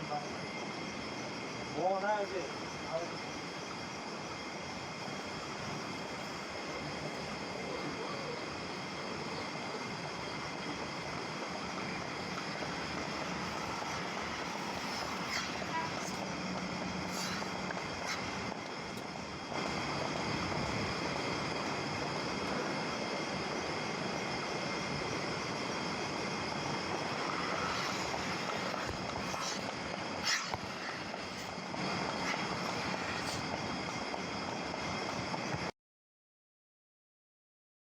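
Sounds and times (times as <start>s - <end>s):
faint high whining tones: 0.0s - 35.7s
steady machine noise: 0.0s - 35.7s.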